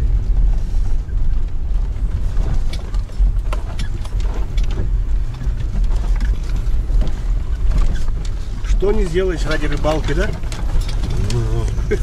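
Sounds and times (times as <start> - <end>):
car engine and tyres rumbling: 0.0 - 12.0
car knocks and rattles: 0.0 - 12.0.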